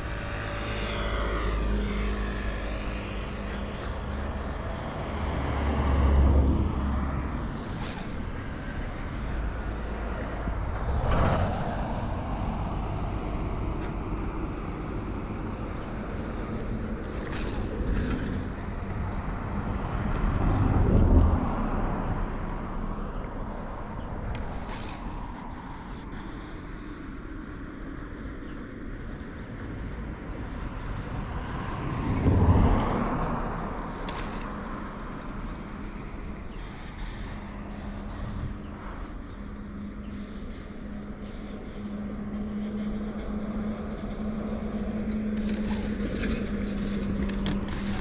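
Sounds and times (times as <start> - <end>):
road vehicles passing: 0.0 - 48.0
steady low rumble: 0.0 - 48.0.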